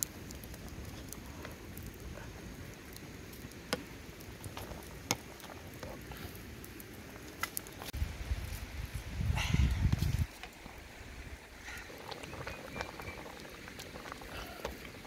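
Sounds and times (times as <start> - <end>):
pot boiling: 0.0 - 15.0
wood fire crackling and popping: 0.0 - 15.0.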